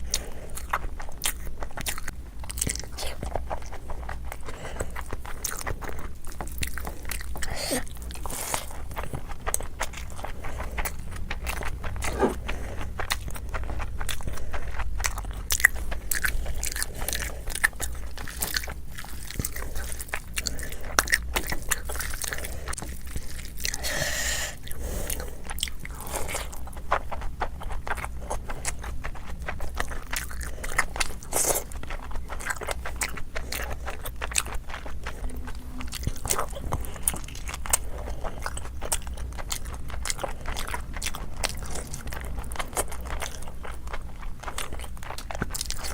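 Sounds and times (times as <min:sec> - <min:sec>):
chewing crunchy chicken: 0:00.0 - 0:45.9
faint low hum: 0:00.0 - 0:45.9.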